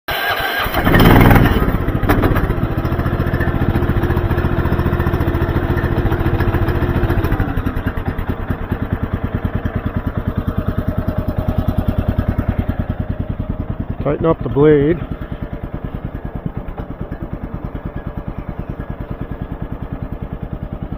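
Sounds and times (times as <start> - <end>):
small engine running and idling: 0.1 - 20.9.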